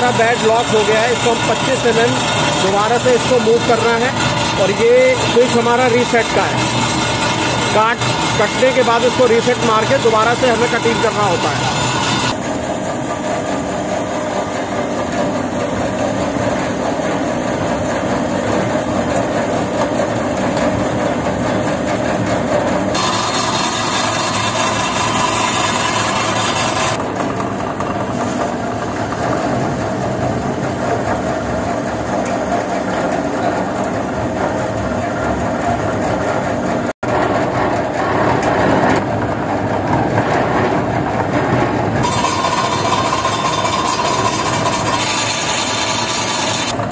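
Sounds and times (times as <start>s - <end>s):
cutting machine running: 0.0s - 36.3s, 37.0s - 46.9s.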